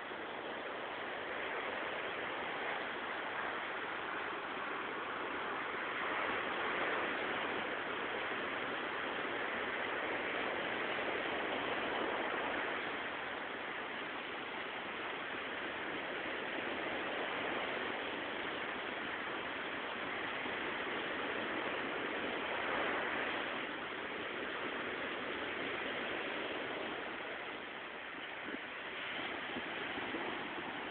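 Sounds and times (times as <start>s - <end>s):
sea waves breaking on shore: 0.0s - 30.9s.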